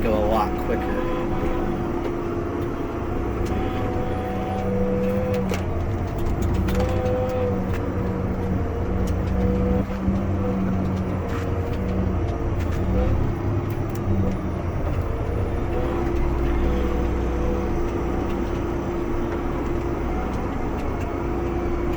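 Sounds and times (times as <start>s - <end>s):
steady whining tones: 0.0s - 21.9s
tractor engine running: 0.0s - 21.9s.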